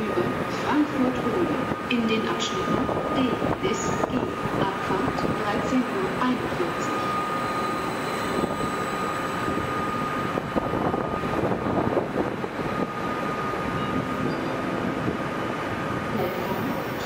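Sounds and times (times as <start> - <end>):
electric train motors humming: 0.0 - 17.0
steady high tone: 1.0 - 17.0.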